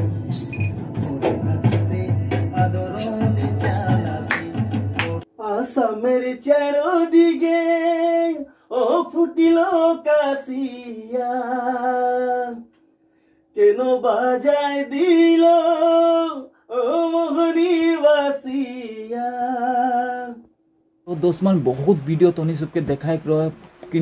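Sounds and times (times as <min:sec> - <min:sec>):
man singing: 0:00.0 - 0:12.7, 0:13.5 - 0:20.5.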